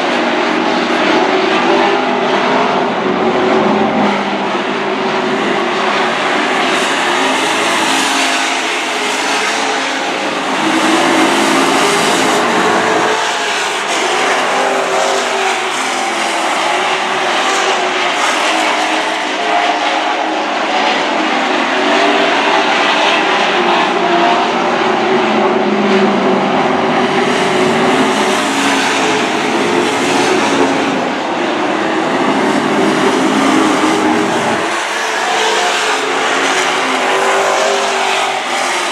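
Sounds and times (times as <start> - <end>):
race truck engines: 0.0 - 38.9.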